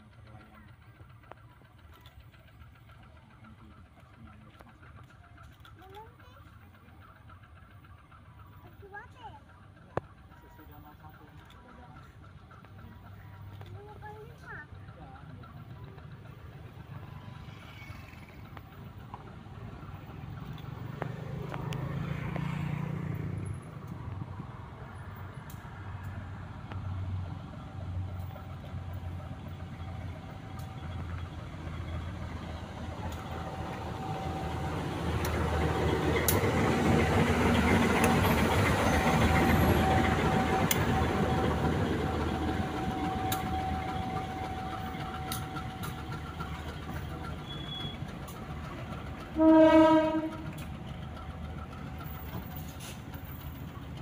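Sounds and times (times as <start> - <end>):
locomotive engine rumbling: 0.0 - 54.0
train coaches rolling past: 0.0 - 54.0.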